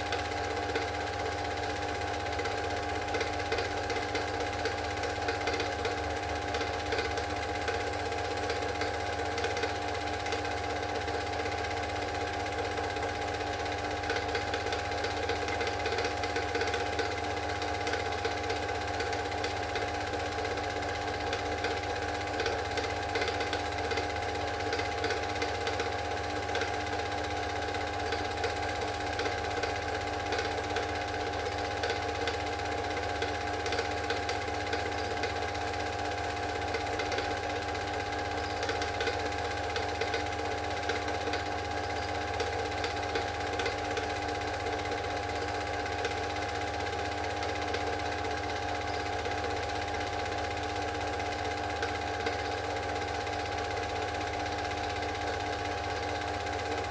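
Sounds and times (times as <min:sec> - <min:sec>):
film projector whirring: 0:00.0 - 0:56.9.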